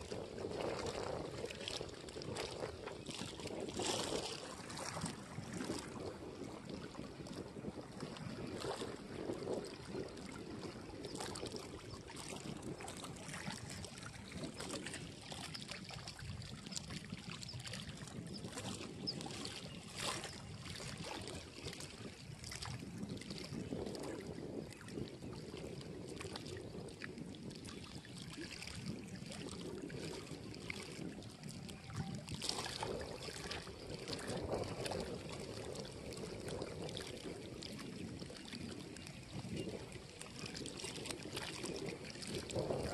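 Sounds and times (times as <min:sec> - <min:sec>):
waves lapping against rocks: 0:00.0 - 0:42.9
wind on microphone: 0:00.0 - 0:42.9.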